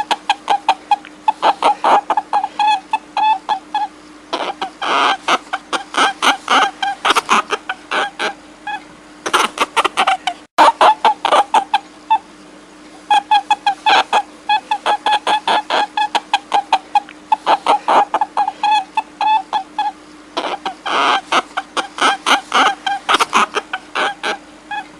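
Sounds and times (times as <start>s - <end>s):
high clucking calls: 0.0s - 24.9s
low steady hum: 0.0s - 24.9s.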